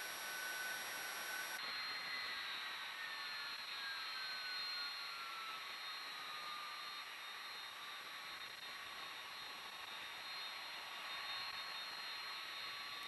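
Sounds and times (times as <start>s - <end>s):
jet engines hissing and whining: 0.0s - 13.0s.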